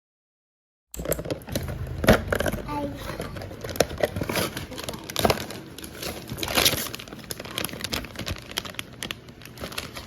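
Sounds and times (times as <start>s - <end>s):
plastic packaging crinkling: 1.0s - 10.0s.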